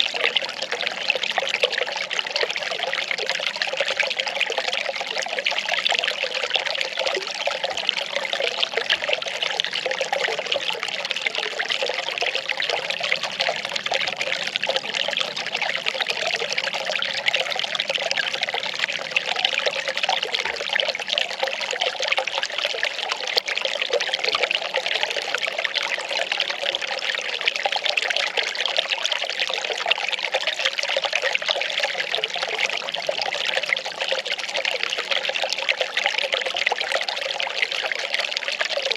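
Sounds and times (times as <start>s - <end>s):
water pouring steadily: 0.0s - 38.9s.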